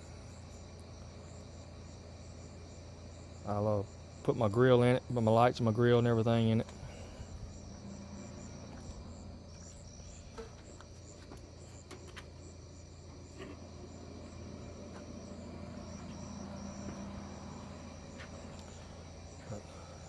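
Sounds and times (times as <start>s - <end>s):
crickets chirping: 0.0s - 20.0s
steady low hum: 0.0s - 20.0s.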